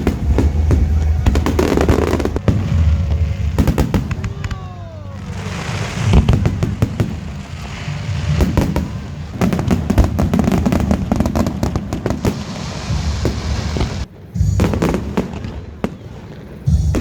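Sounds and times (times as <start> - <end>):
fireworks booming and crackling: 0.0 - 17.0.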